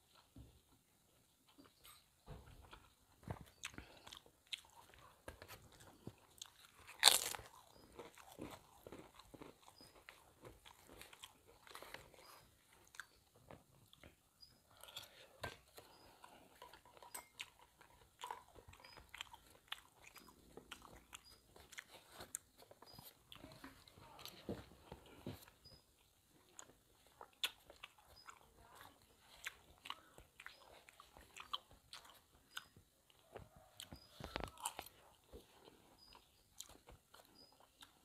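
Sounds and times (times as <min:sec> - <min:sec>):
chewing and crunching: 0:00.0 - 0:38.0.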